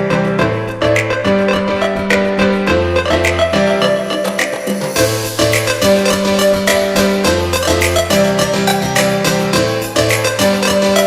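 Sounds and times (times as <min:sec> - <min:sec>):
keyboard music with beat: 0:00.0 - 0:11.0.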